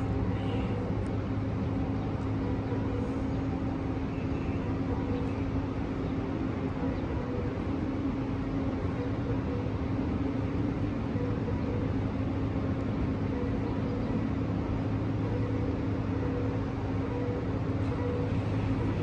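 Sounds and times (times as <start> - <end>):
diesel locomotive idling hum: 0.0 - 19.0.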